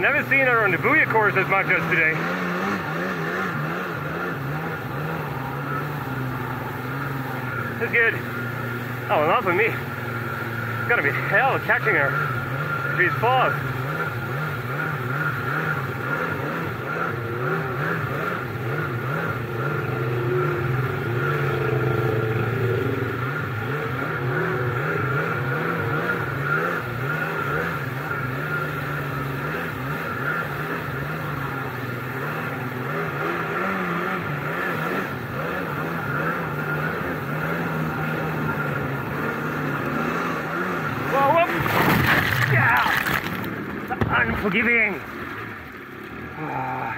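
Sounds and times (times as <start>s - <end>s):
jet ski engine running at speed: 0.0s - 46.9s.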